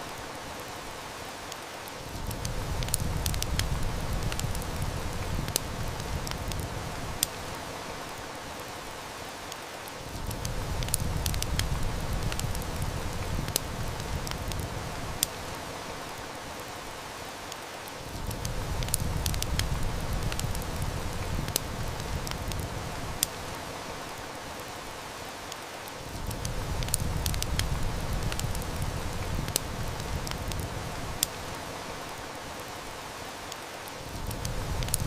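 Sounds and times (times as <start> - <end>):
heavy rain hissing: 0.0 - 35.0
wood fire crackling: 0.0 - 35.0.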